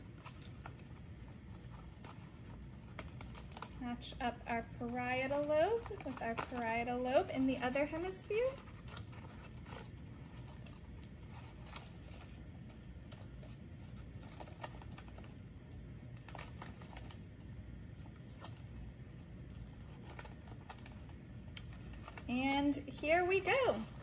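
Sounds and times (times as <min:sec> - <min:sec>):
low room noise: 0:00.0 - 0:24.0
paper and tape rustling: 0:00.0 - 0:24.0.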